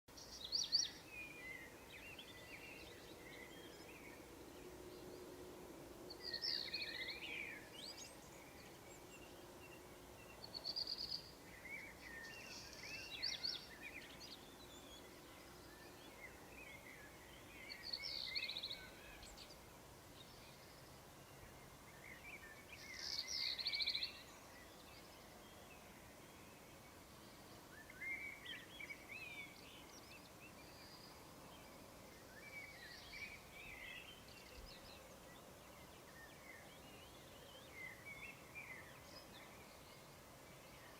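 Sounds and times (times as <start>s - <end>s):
faint background hiss: 0.1s - 40.9s
songbirds chirping and warbling: 0.1s - 40.9s.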